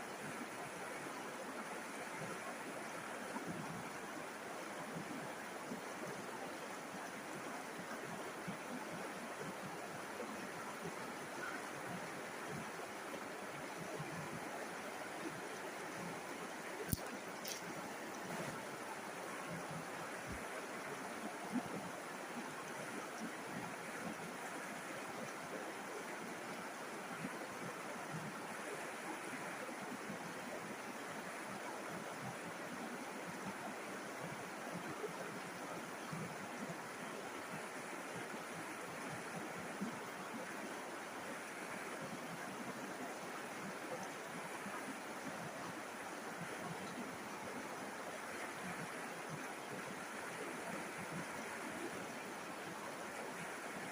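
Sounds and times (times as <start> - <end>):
river water babbling over stones: 0.0 - 53.9.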